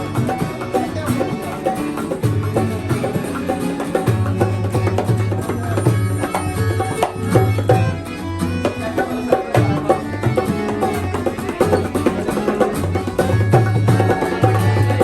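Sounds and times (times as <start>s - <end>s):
drums keeping a steady beat: 0.0s - 15.0s
worship band music: 0.0s - 15.0s.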